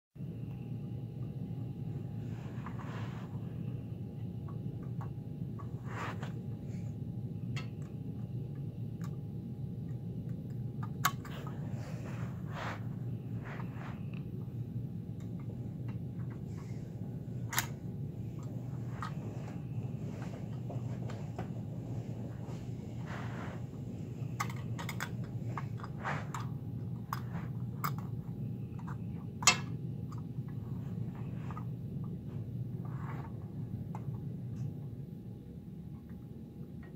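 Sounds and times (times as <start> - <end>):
low hum: 0.2 - 36.9.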